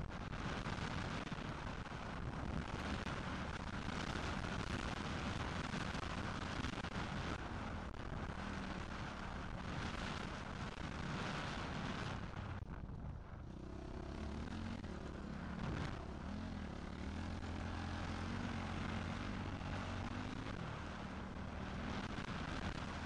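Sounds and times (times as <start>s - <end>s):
motocross bike engine: 0.0s - 23.0s.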